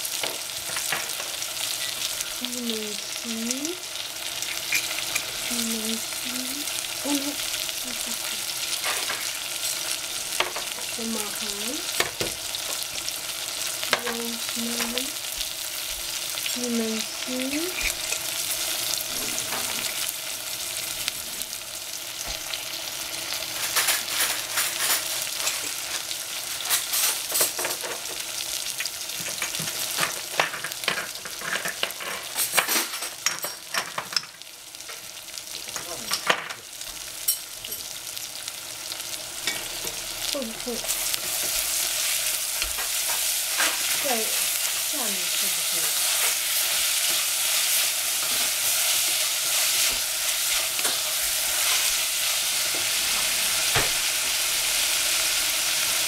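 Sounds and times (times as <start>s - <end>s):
vegetables sizzling in oil: 0.0s - 56.0s.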